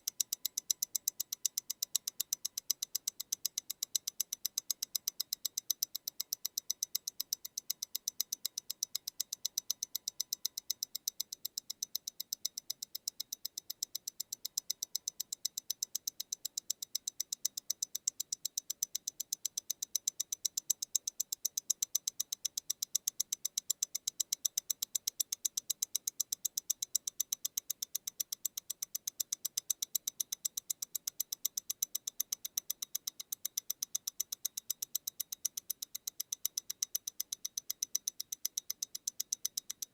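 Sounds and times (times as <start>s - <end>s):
watch ticking: 0.0s - 39.9s.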